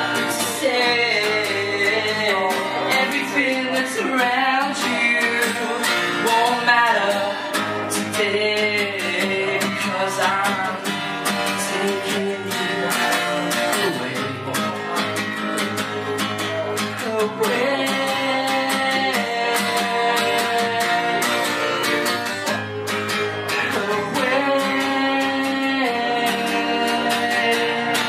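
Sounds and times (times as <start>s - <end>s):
man singing: 0.0s - 28.0s
strummed acoustic guitar: 0.0s - 28.0s.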